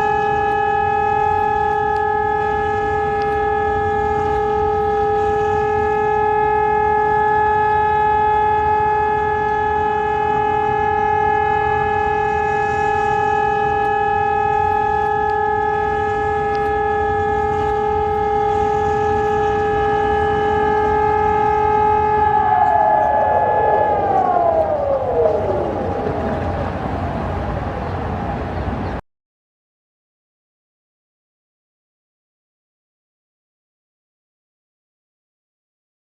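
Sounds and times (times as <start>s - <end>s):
warning siren steady tone: 0.0s - 28.9s.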